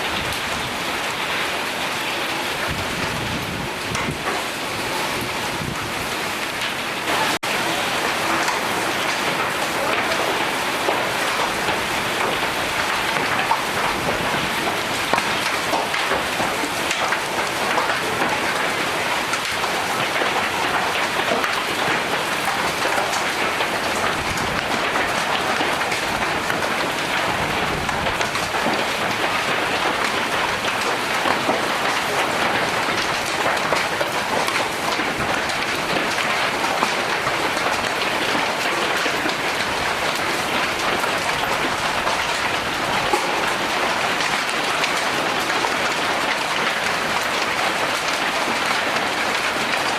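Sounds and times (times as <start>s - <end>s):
hail pelting down: 0.0s - 49.9s.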